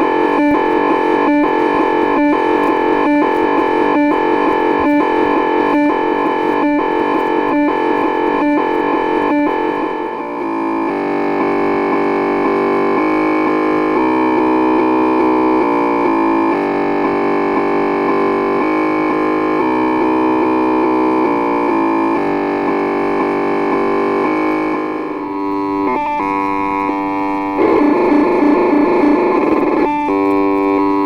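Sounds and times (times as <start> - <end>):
buzzy electronic computer tones: 0.0 - 31.0.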